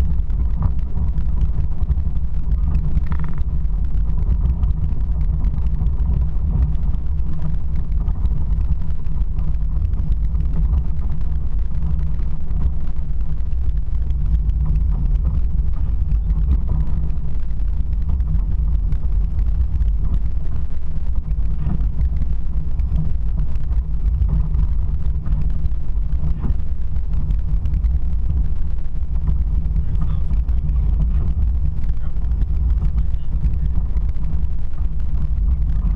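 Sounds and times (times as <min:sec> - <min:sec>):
motor vehicle rumble: 0:00.0 - 0:35.9.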